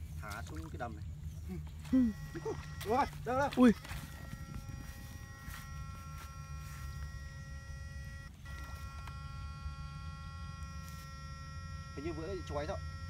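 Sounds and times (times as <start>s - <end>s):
high electric whine: 1.8s - 13.0s.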